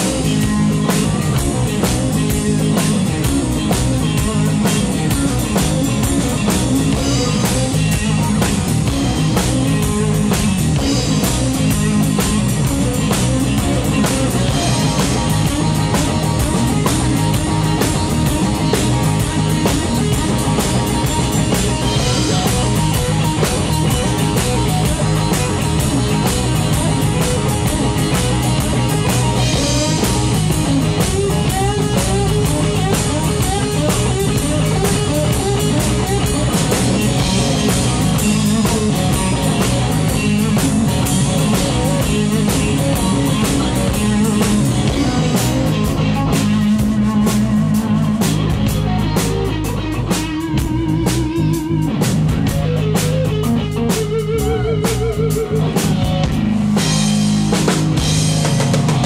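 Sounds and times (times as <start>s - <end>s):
bass guitar: 0.0s - 59.0s
drum kit: 0.0s - 59.0s
electric guitar lead: 0.0s - 59.0s.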